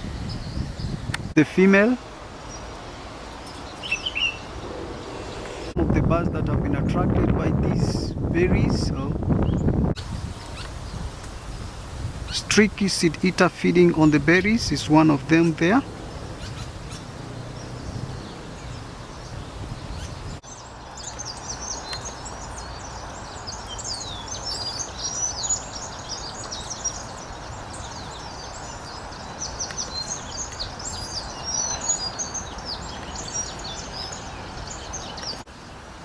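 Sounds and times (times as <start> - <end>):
small birds chirping: 0.0 - 5.8, 9.3 - 35.7.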